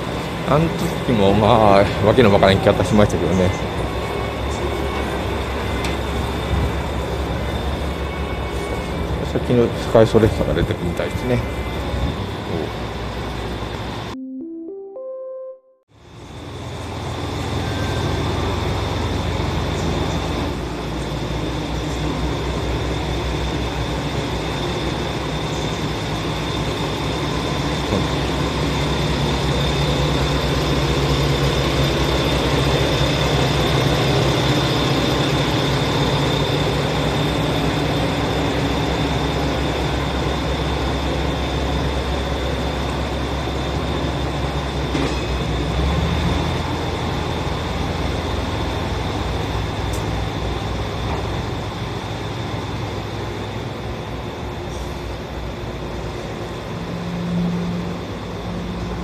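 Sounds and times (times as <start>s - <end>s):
train wheel noise: 0.0s - 14.1s, 16.0s - 59.0s
diesel railcar engine drone: 0.0s - 14.2s, 15.9s - 59.0s.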